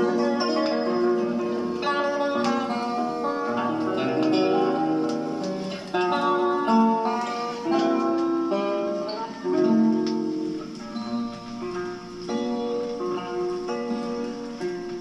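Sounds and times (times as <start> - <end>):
plucked and strummed guitar: 0.0 - 15.0.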